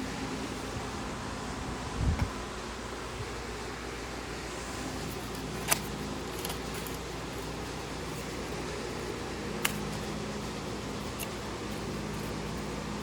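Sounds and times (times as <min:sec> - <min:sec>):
furnace fan whirring: 0:00.0 - 0:13.0.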